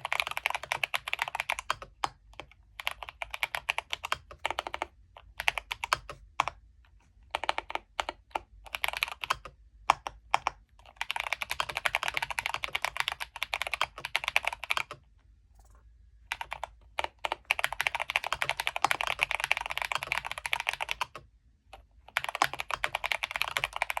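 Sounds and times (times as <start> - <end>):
mechanical keyboard typing: 0.0 - 6.6, 7.3 - 15.0, 15.6 - 24.0.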